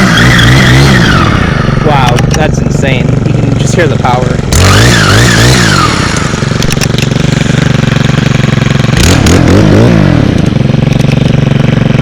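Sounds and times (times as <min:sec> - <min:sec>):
engine running with throttle blips: 0:00.0 - 0:12.0.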